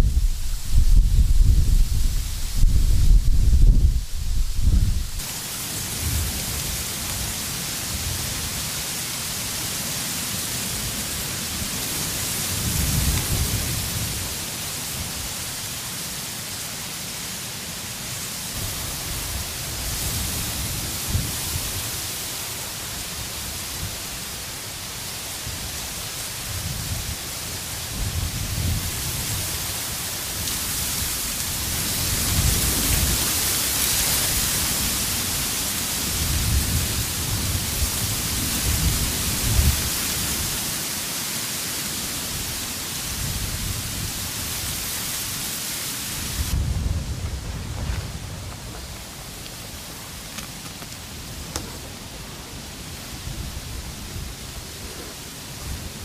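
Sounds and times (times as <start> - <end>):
reeds rustling in the wind: 0.0 - 56.0
wind gusts: 0.0 - 56.0.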